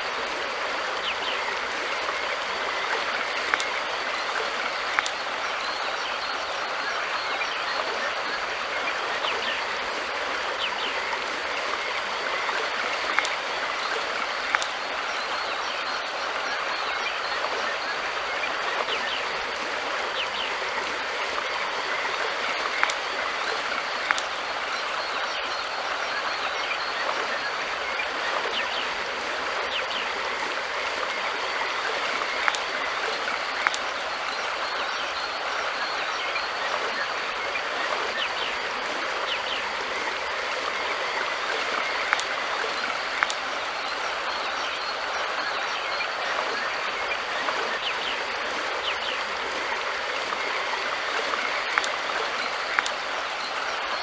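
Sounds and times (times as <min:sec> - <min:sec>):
river water flowing: 0:00.0 - 0:54.0
water splashes: 0:00.0 - 0:54.0.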